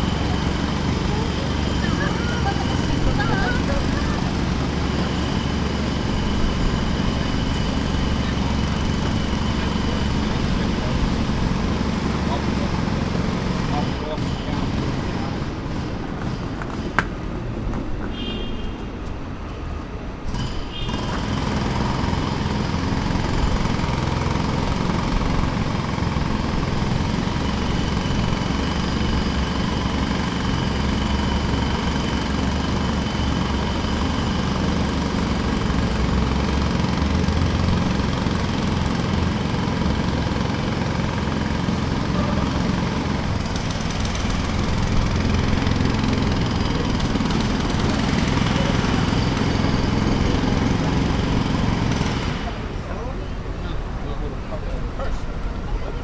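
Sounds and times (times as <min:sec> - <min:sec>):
jackhammer pounding: 0:00.0 - 0:18.0, 0:20.1 - 0:56.0.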